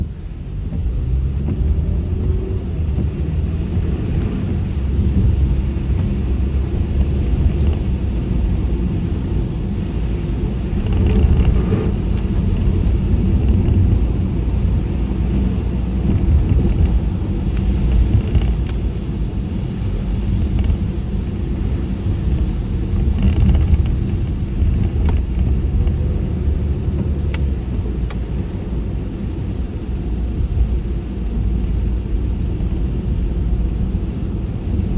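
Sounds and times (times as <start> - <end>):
tyre and engine rumble: 0.0 - 34.9.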